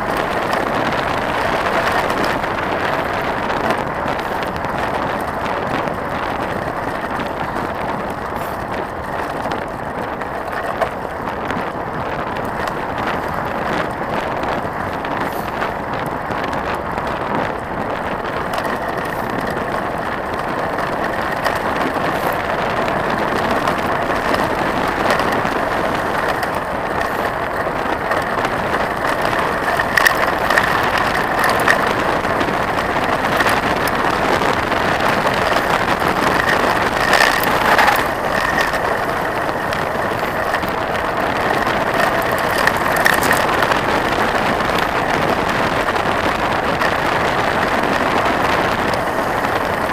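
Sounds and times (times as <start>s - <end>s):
bike and stones clicking: 0.0s - 49.9s
bike tyres rumbling on gravel: 0.0s - 49.9s.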